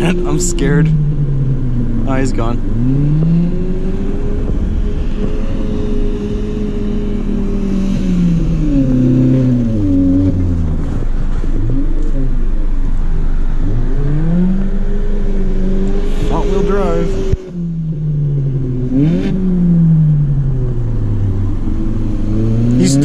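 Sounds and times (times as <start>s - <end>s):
car engine revving hard: 0.0s - 23.0s.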